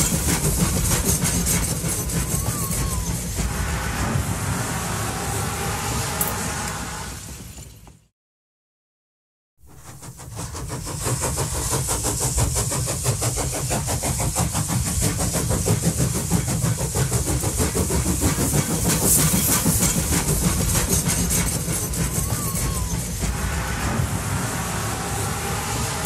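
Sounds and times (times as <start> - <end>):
steady steam hiss: 0.0 - 7.8, 9.7 - 26.0
steam train chuffing: 0.0 - 8.0, 9.6 - 26.0.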